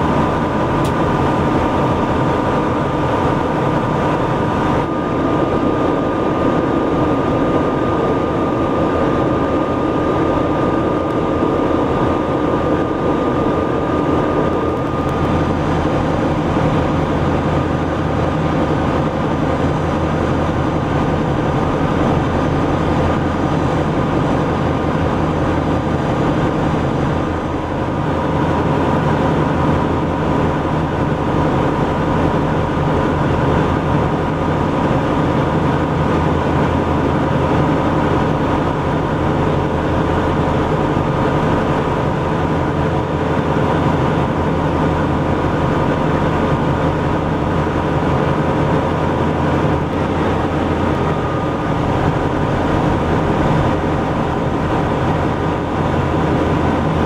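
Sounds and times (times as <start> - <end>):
boat diesel engines droning: 0.0 - 57.0
deeper hum: 0.0 - 57.0.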